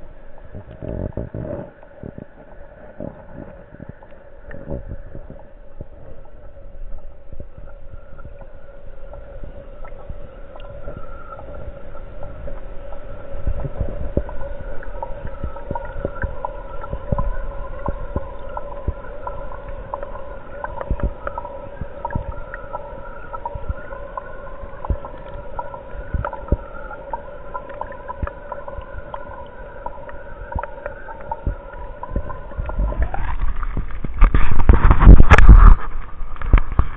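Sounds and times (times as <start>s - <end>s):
underwater aquarium pump hum: 0.0s - 36.9s.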